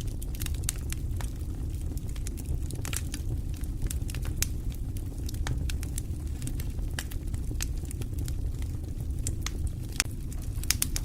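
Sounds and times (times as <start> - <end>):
low rumble of burning fire: 0.0 - 11.0
wood fire crackling: 0.0 - 11.0.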